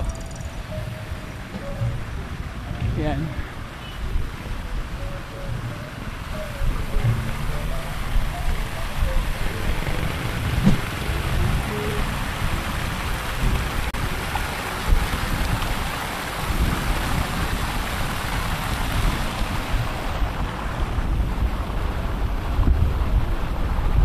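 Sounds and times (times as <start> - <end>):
fountain water splashing: 0.0 - 24.0
wind buffeting microphone: 0.0 - 24.0.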